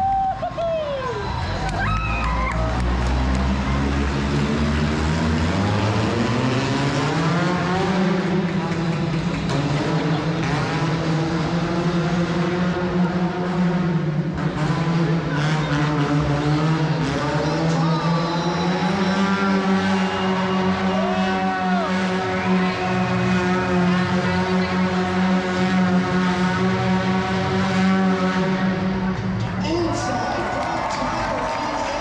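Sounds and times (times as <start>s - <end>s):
monster truck engine running: 1.2s - 32.0s.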